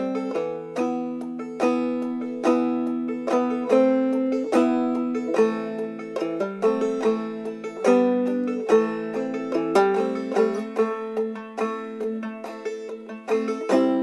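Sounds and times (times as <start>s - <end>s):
plucked string tune: 0.0s - 14.0s.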